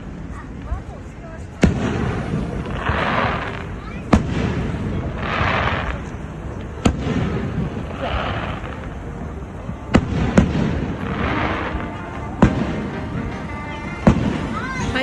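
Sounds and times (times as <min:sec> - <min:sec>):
background noise: 0:00.0 - 0:15.0
fireworks bangs: 0:01.6 - 0:15.0.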